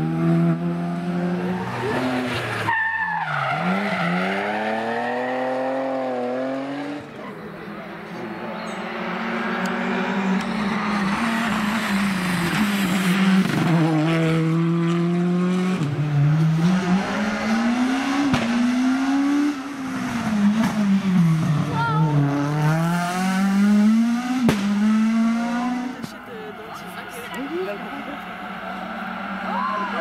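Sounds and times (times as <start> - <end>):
rally car engines revving high: 0.0 - 30.0
car sliding on tarmac: 0.6 - 30.0.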